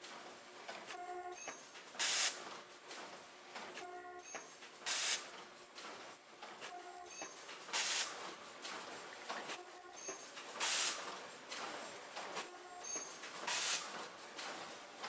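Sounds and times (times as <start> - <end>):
short bursts of hiss: 0.9 - 15.0.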